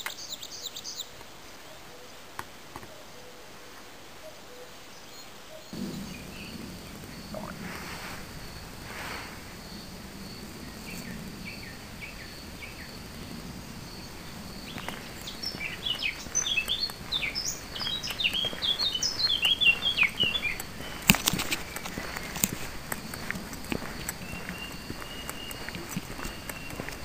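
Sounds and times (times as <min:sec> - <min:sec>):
songbird chirping: 0:00.0 - 0:27.0.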